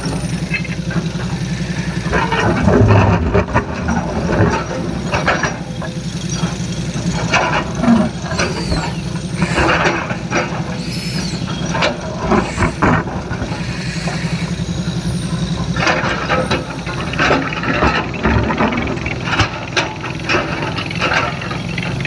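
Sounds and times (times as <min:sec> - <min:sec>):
excavator diesel engine running: 0:00.0 - 0:22.0
metal clanks and rattles: 0:00.0 - 0:22.0.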